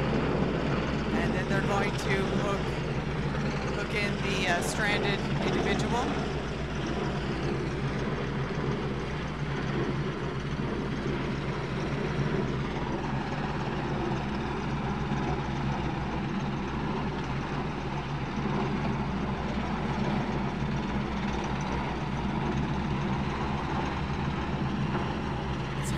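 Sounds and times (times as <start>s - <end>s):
helicopter hovering: 0.0s - 25.9s.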